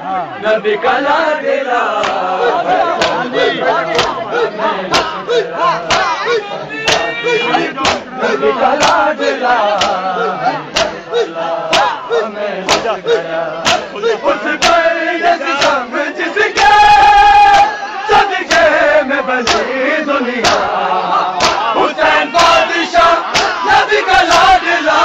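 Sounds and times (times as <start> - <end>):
men chanting: 0.0 - 25.0
rhythmic chest-beating: 1.0 - 25.0.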